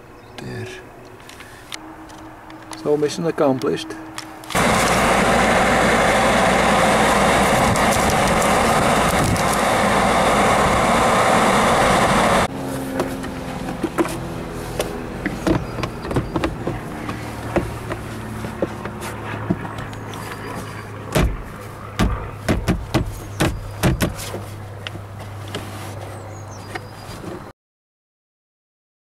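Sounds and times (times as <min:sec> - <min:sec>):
blower fan air rush: 0:01.2 - 0:26.4.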